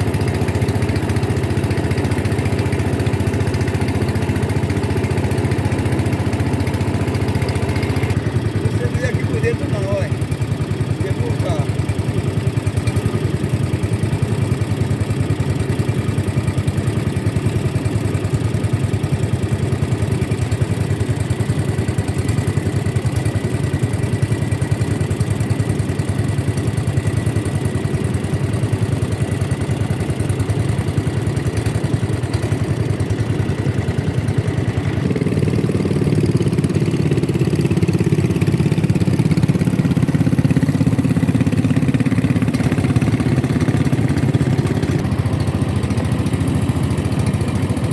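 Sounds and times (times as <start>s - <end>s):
boat engine rumbling: 0.0s - 14.6s, 24.0s - 47.9s.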